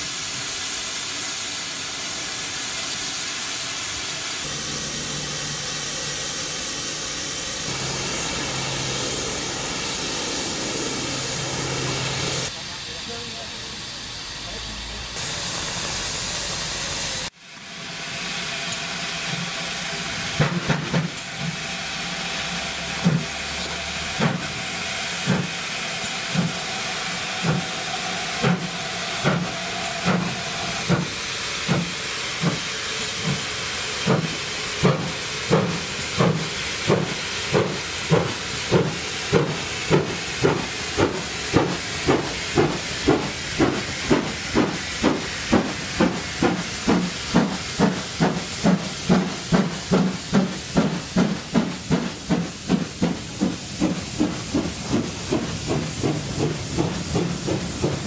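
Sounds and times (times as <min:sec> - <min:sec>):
loud hiss of steam: 0:00.0 - 0:58.0
steam escaping around cylinders: 0:00.0 - 0:58.0
steam locomotive exhaust beats: 0:00.0 - 0:58.0.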